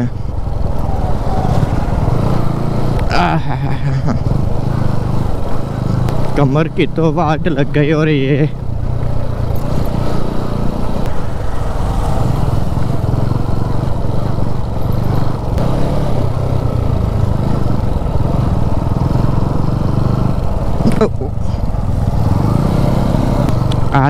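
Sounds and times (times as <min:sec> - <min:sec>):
motorcycle engine low rumble: 0:00.0 - 0:24.0.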